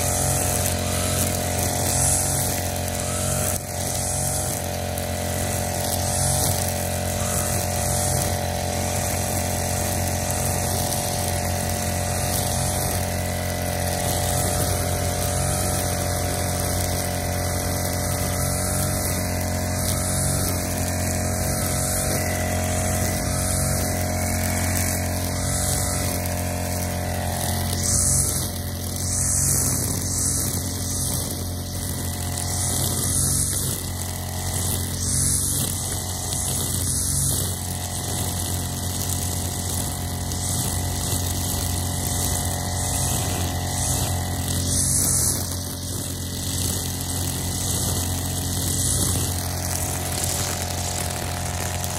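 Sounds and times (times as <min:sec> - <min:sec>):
brush cutter engine running: 0:00.0 - 0:51.9
swish of cut grass: 0:00.0 - 0:51.9.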